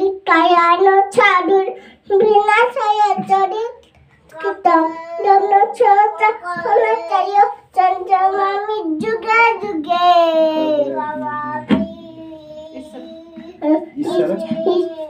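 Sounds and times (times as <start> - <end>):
child chanting: 0.0 - 15.0.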